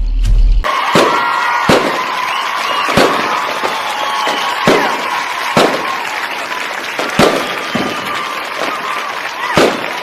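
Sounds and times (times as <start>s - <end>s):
firework bangs: 0.7s - 10.0s
crackle of bursting shells: 0.9s - 10.0s.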